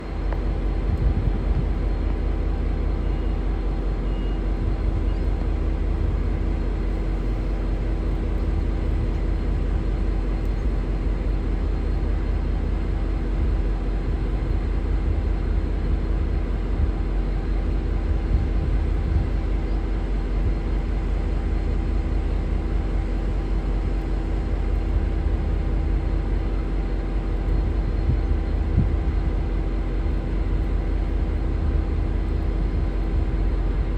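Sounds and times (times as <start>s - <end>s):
diesel locomotive idling: 0.0s - 33.9s.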